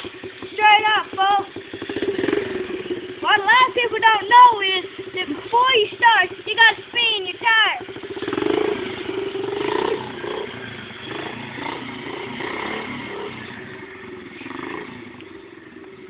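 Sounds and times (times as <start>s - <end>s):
small motorbike engine revving: 0.0s - 16.0s.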